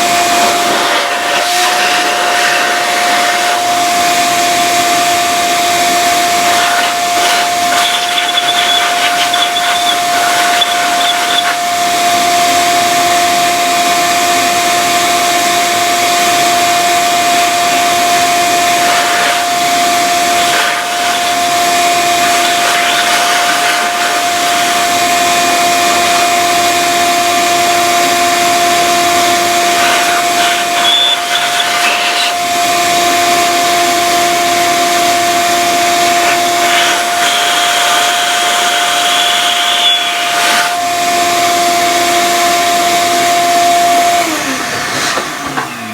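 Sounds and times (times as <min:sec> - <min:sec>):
electric motor whirring: 0:00.0 - 0:45.9.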